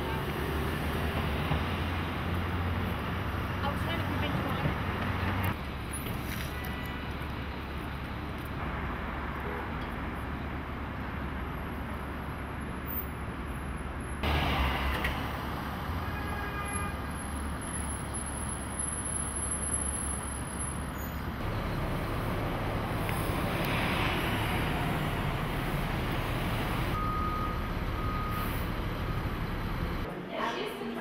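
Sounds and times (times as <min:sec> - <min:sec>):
passing vehicles rumbling: 0:00.0 - 0:30.1.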